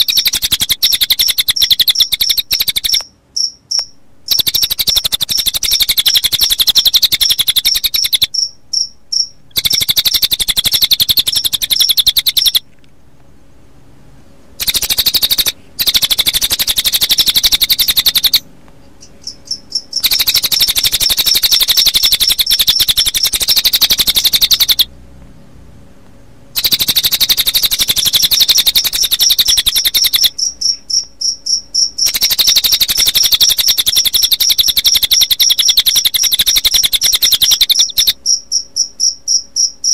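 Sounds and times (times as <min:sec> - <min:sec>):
bird singing high trills: 0:00.0 - 0:12.6, 0:14.6 - 0:18.4, 0:19.0 - 0:24.9, 0:26.6 - 0:38.9
crickets chirping: 0:00.0 - 0:12.7, 0:14.2 - 0:25.0, 0:26.5 - 0:39.9.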